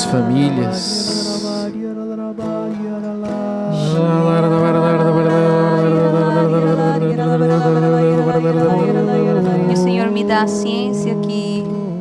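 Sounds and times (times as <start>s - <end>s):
guitar: 0.0s - 12.0s
person singing: 0.0s - 12.0s
slow worship music: 0.0s - 12.0s.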